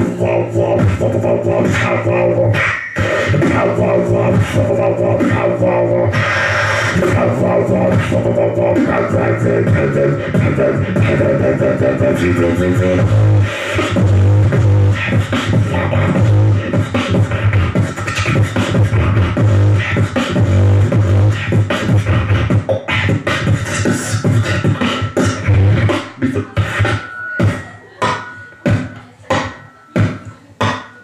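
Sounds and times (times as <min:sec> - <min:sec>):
beatboxing through microphone: 0:00.0 - 0:31.0.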